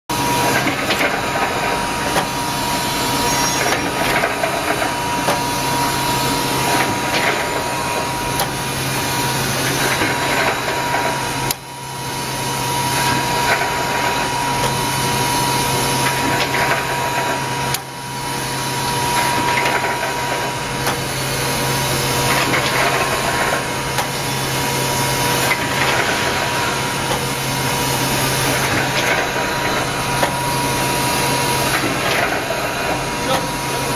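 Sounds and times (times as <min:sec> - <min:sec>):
wire mesh machine running: 0:00.1 - 0:33.9.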